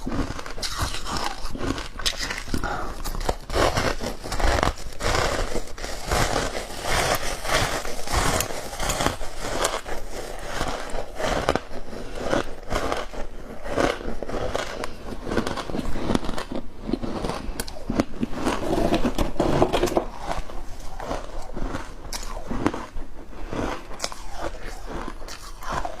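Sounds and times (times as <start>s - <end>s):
crisp crunchy chewing: 0.0s - 26.0s.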